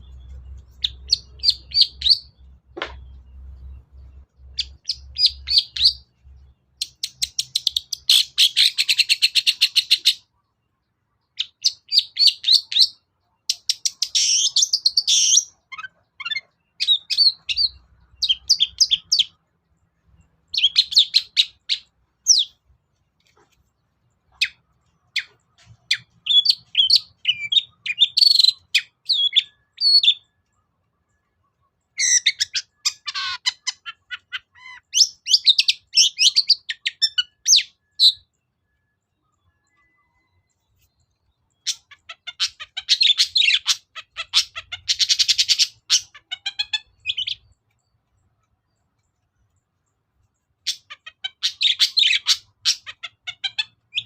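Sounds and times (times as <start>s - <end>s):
bird singing high chattering notes: 0.0s - 10.4s, 11.2s - 19.4s, 20.0s - 22.6s, 24.1s - 30.4s, 31.9s - 48.0s, 50.6s - 54.0s.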